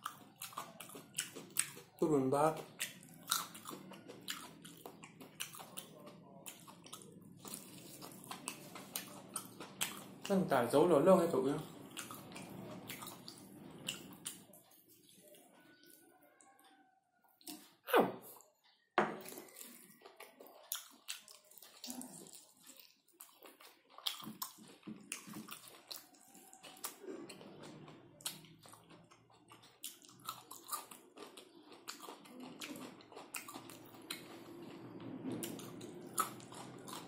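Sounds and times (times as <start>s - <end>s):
person chewing food: 0.0s - 10.4s, 11.5s - 37.0s.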